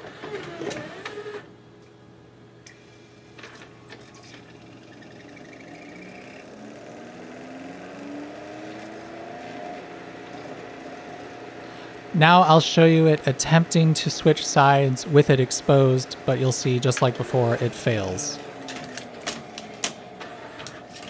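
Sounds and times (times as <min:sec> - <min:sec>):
disc tray motor whirring: 0:00.0 - 0:01.5, 0:02.8 - 0:21.0
spindle motor rising whine: 0:03.8 - 0:21.0.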